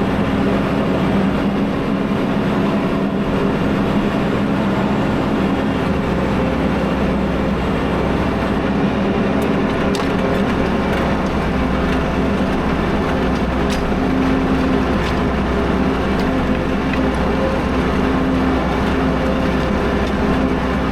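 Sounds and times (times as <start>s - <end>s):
tractor engine under load: 0.0s - 20.9s.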